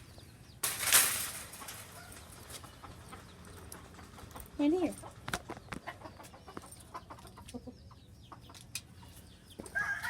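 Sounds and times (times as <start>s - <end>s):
chickens clucking softly: 1.9s - 10.0s.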